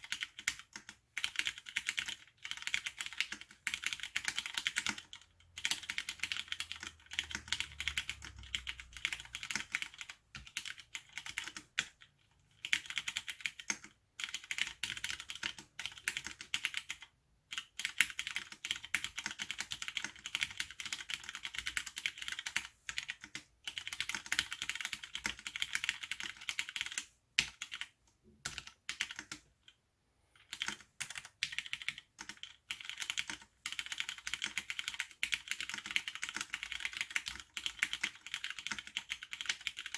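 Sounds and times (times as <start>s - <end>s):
mechanical keyboard typing: 0.0s - 29.8s, 30.4s - 39.9s.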